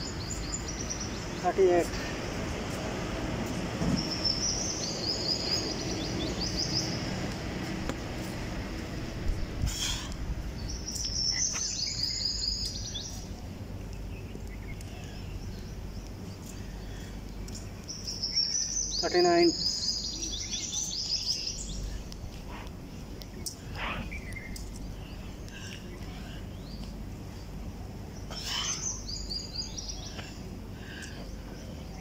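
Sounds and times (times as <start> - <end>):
birds chirping and trilling: 0.0 - 2.8, 3.7 - 9.1, 9.7 - 32.0
steady low hum: 0.0 - 19.0, 19.6 - 32.0.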